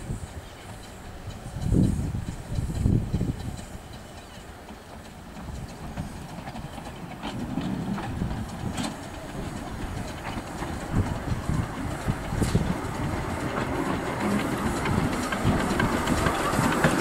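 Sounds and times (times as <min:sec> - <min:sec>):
steam locomotive exhaust beats: 0:00.0 - 0:17.0
wheel-on-rail clicks: 0:00.4 - 0:17.0.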